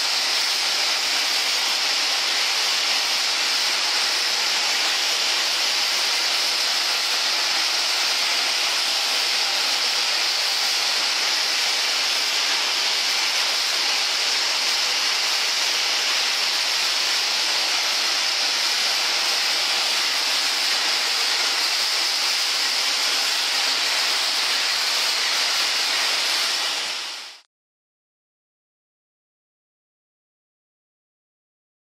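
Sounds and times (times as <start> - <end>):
machine running with high hiss: 0.0 - 27.4.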